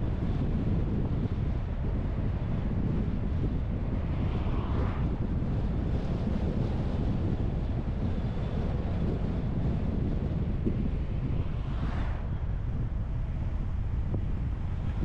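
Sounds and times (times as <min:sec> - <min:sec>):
car wind and road rumble: 0:00.0 - 0:15.0
wind buffeting microphone: 0:00.0 - 0:15.0.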